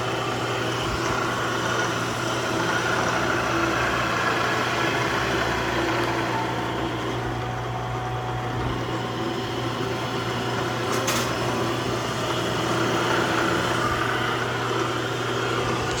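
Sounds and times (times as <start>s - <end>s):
milling machine motor humming: 0.0s - 16.0s.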